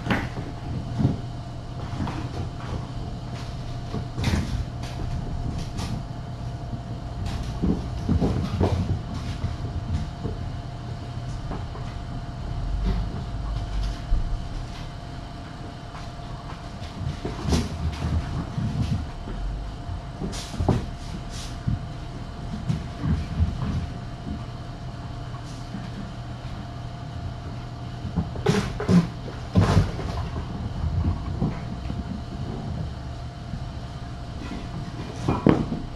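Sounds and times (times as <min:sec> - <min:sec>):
electrical hum: 0:00.0 - 0:35.9
kittens running and playing: 0:00.0 - 0:35.9.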